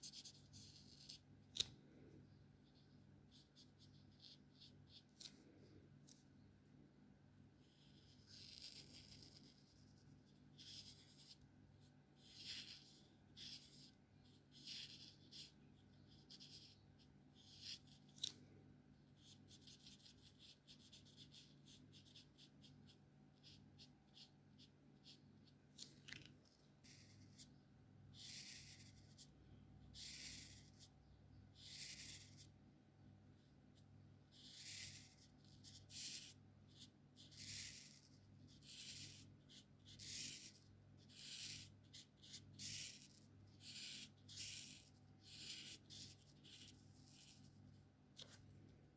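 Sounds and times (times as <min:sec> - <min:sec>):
marker scratching on paper: 0:00.0 - 0:01.7, 0:02.6 - 0:05.3, 0:07.6 - 0:18.3, 0:19.1 - 0:25.9, 0:26.8 - 0:27.5, 0:28.1 - 0:30.9, 0:31.6 - 0:32.5, 0:34.3 - 0:48.4.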